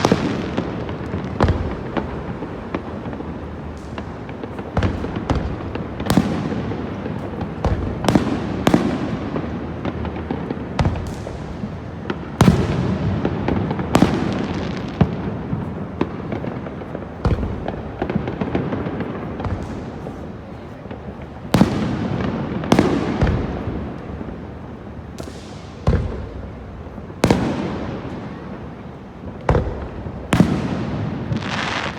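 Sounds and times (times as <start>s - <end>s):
fireworks booming with echoes: 0.0s - 31.9s.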